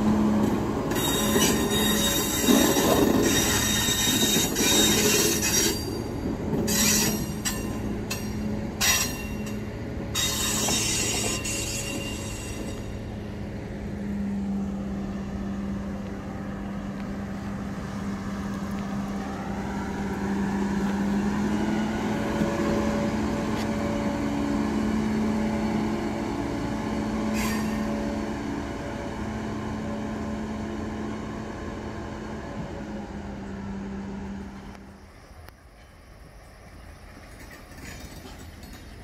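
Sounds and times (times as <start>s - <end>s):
rail vehicle engine passing: 0.0s - 39.0s.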